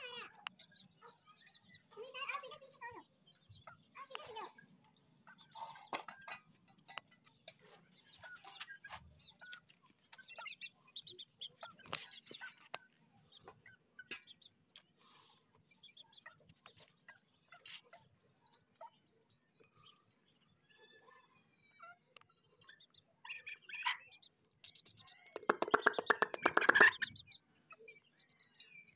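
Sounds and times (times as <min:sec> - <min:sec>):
chickens clucking and chirping: 0:00.0 - 0:28.9.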